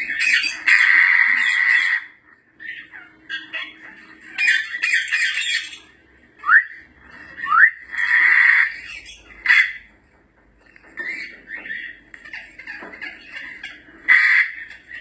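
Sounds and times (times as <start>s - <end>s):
parrots squawking: 0.0s - 15.0s.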